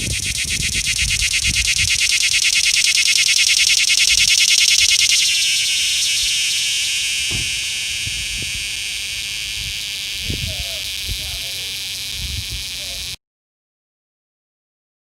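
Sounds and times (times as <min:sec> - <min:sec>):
cicada buzzing: 0:00.0 - 0:13.2.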